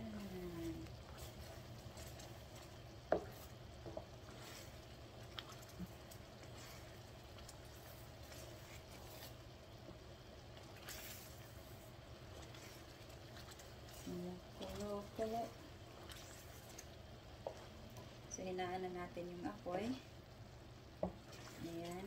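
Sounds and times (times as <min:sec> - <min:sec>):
wooden spoon stirring: 0:00.0 - 0:20.2, 0:21.0 - 0:22.0
thick syrup bubbling in a skillet: 0:00.0 - 0:22.0.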